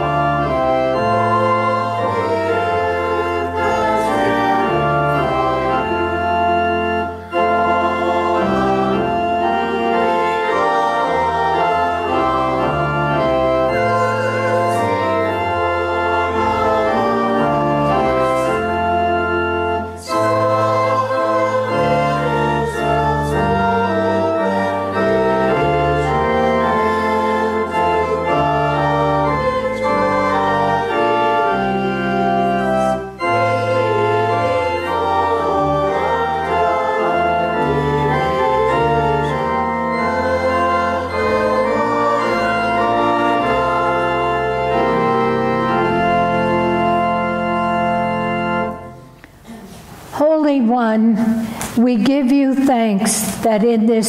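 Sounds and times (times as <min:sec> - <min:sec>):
church organ playing chords: 0:00.0 - 0:49.4.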